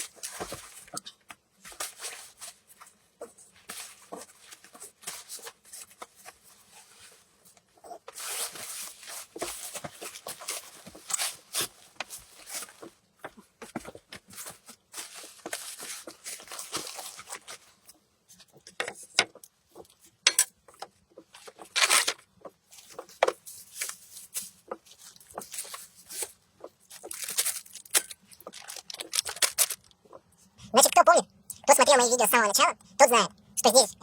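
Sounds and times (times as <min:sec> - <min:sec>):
rustling and crinkling handling: 0:00.0 - 0:30.6.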